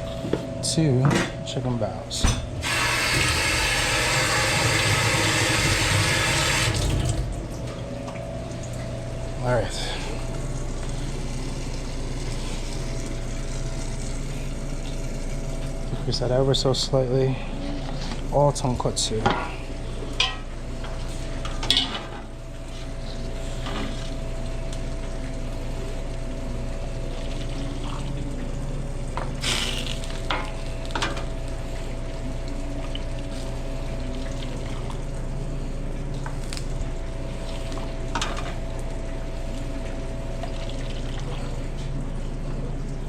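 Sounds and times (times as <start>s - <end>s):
steady background hum: 0.0s - 43.0s.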